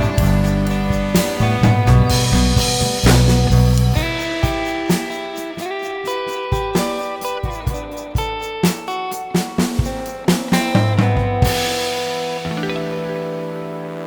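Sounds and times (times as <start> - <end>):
drum kit beat: 0.0 - 14.0
guitar: 0.0 - 14.0.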